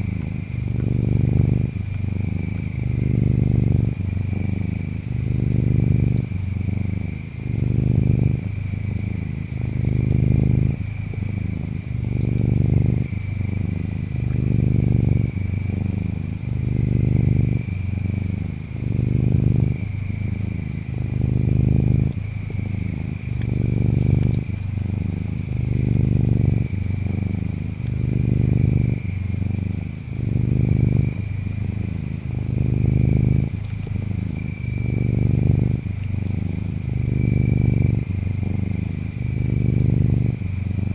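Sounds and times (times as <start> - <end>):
cat purring: 0.0 - 40.9
insects trilling: 0.0 - 40.9.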